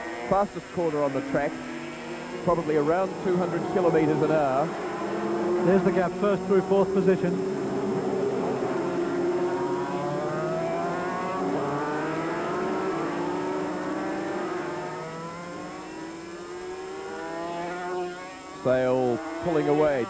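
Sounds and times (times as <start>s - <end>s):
racing motorcycles at full throttle: 0.0s - 20.0s.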